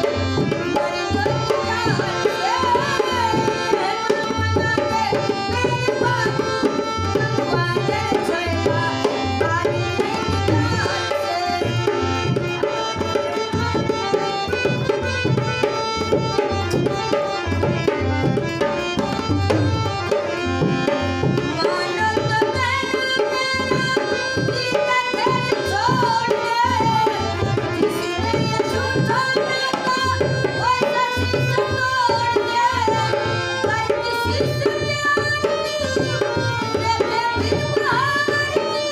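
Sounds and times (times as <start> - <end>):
woman singing: 0.0 - 18.0, 20.1 - 38.9
hand drum rhythm: 0.0 - 38.9
harmonium: 0.0 - 38.9.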